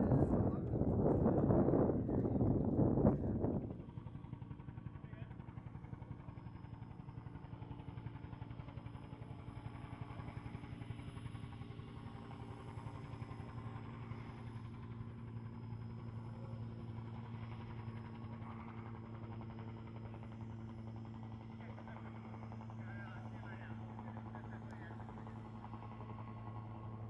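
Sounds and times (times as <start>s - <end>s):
helicopter engine hum: 0.0s - 27.0s
helicopter rotor chop: 0.0s - 27.0s.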